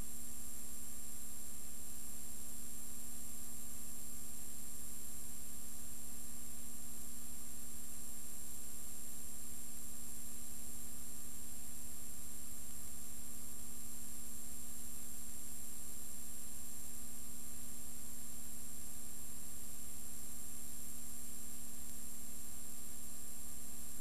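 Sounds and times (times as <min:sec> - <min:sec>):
electrical hum and hiss: 0:00.0 - 0:24.0.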